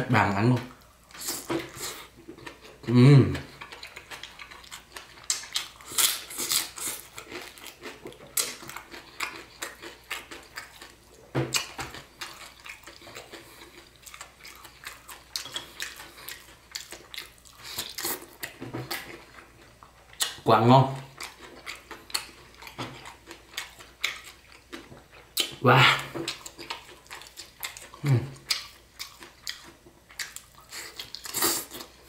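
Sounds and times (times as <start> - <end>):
wet chewing and lip-smacking: 1.1 - 20.4, 21.0 - 32.0.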